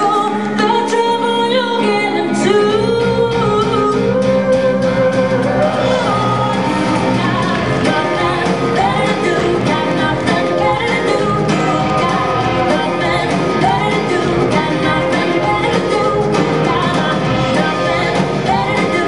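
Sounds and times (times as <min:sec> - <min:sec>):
song over a sound system: 0:00.0 - 0:19.0.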